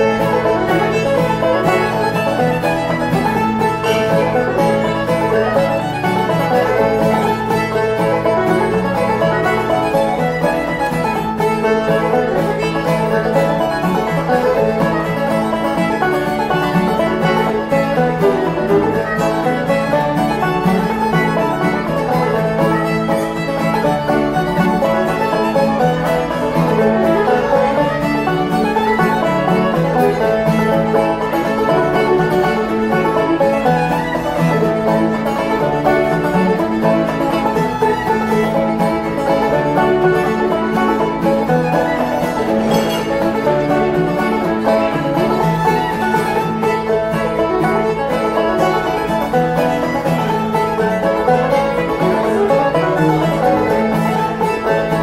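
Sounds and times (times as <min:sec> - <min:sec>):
acoustic guitar: 0:00.0 - 0:55.0
banjo: 0:00.0 - 0:55.0
fiddle: 0:00.0 - 0:55.0.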